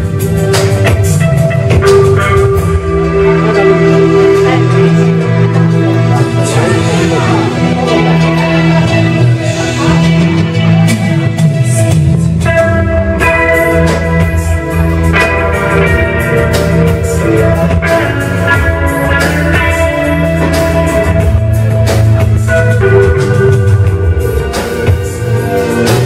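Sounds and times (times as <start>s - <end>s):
bass guitar: 0.0s - 26.0s
drum kit: 0.0s - 26.0s
electric guitar: 0.0s - 26.0s.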